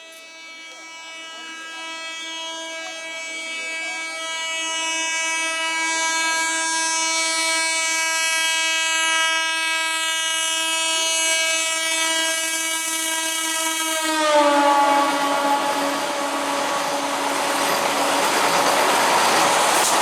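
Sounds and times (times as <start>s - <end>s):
train horn blast: 0.0s - 20.0s.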